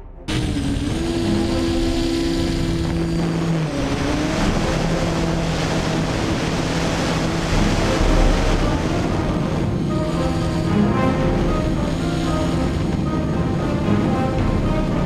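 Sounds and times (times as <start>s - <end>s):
drone motors and propellers buzzing: 0.0s - 15.0s.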